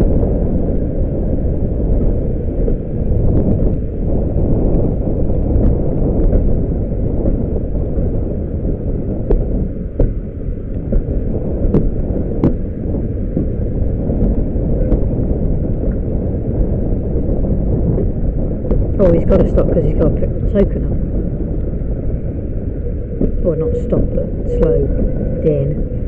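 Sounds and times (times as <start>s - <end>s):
steam train rumbling: 0.0s - 26.0s
wind buffeting microphone: 0.0s - 26.0s.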